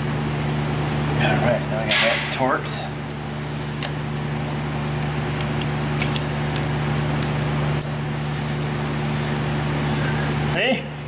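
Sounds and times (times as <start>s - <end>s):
vacuum pump humming: 0.0s - 11.0s.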